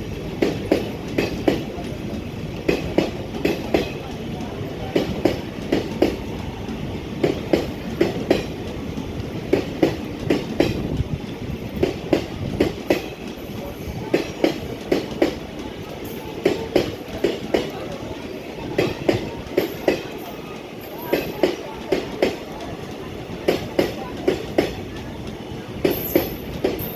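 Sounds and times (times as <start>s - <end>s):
train rolling rumble: 0.0s - 26.9s
train wheels clicking over rail joints: 0.0s - 26.9s.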